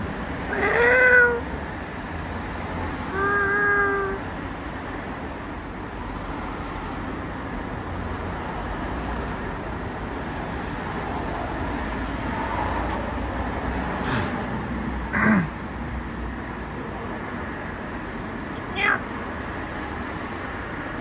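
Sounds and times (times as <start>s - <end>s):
road traffic hum: 0.0s - 21.0s.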